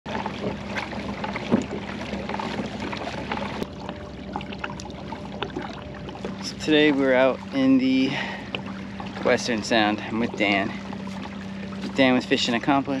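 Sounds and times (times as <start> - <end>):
low steady hum: 0.1 - 13.0
water splashing against kayak hull: 0.1 - 13.0.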